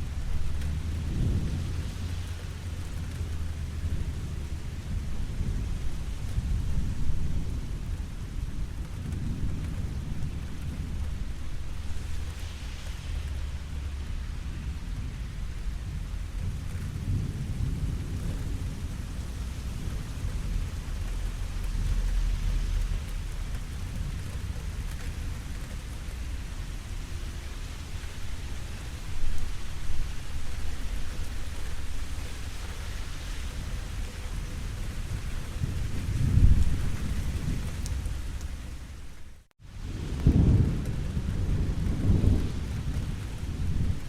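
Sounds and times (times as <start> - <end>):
low rolling thunder: 0.0 - 44.0
steady rain falling: 0.0 - 44.0.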